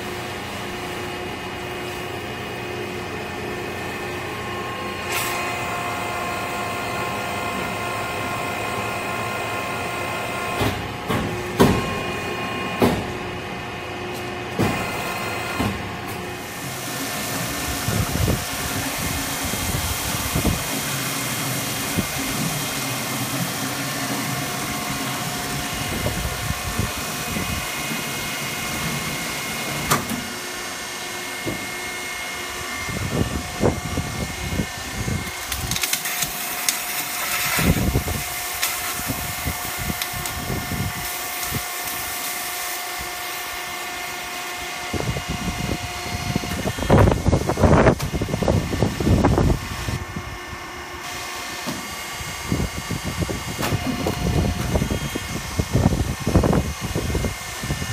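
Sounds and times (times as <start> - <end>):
hydraulic press motor hum: 0.0 - 57.9.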